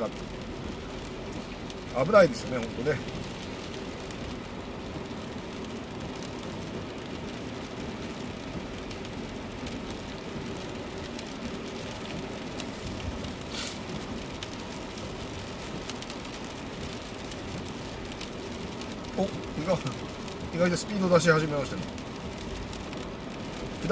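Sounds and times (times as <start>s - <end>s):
rain on car: 0.0s - 23.9s
tyres hissing on wet road: 0.0s - 23.9s.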